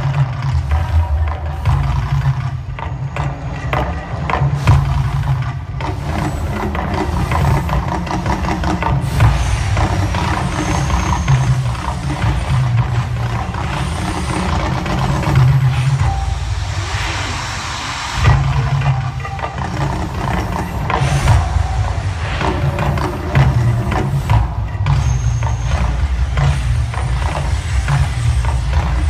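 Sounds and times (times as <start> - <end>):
deep rumble: 0.0 - 29.0
sharp drum-like hits: 0.0 - 29.0.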